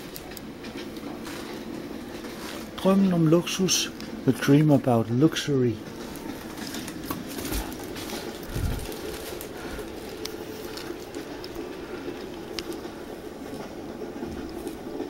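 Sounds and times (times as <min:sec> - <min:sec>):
mechanical rumble and hum: 0:00.0 - 0:15.0.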